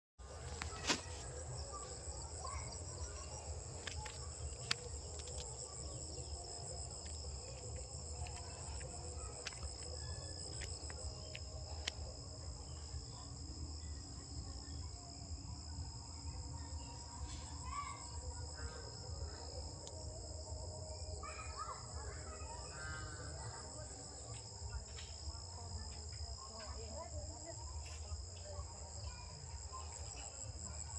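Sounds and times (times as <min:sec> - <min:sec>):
crickets trilling: 0:00.2 - 0:30.9.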